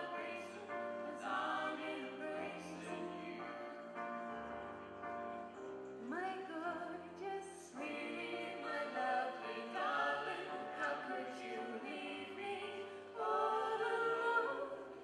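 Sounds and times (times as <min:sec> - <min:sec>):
voices singing in harmony: 0:00.0 - 0:04.7, 0:06.0 - 0:15.0.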